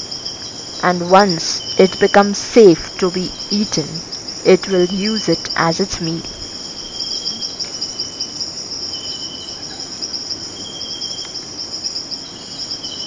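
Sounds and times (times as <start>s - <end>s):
high-pitched insect trill: 0.0s - 13.0s
lower insect trill: 0.0s - 13.0s.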